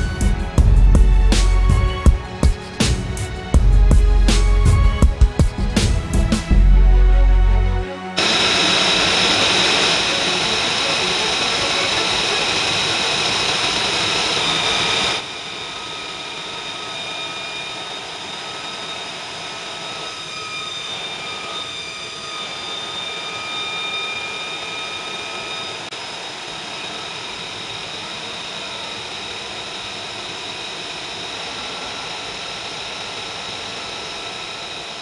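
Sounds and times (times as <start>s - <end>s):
jet turbine whine: 0.0s - 6.7s, 8.1s - 35.0s.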